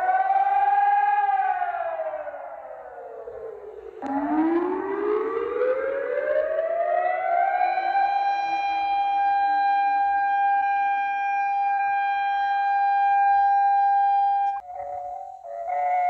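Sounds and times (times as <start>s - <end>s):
civil defense siren wailing: 0.0s - 16.0s.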